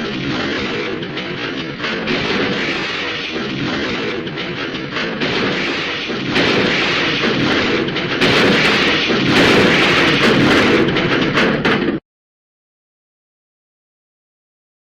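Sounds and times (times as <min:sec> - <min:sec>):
metal junk clattering crash: 0:00.0 - 0:12.0.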